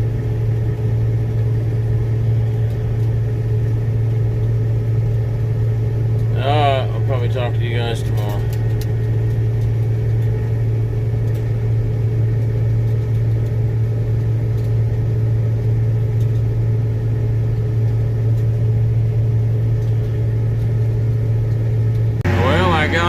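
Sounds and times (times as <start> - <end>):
engine droning steadily: 0.0 - 23.0.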